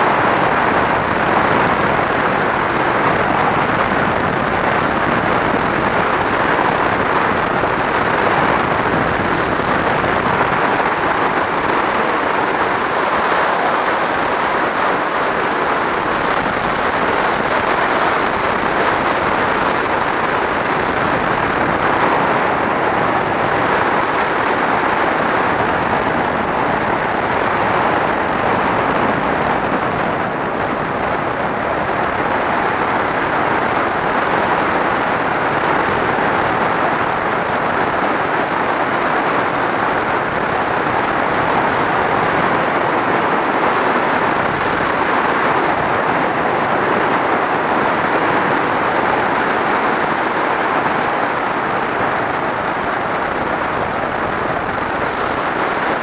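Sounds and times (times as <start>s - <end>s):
wind rushing over camera: 0.0s - 56.0s.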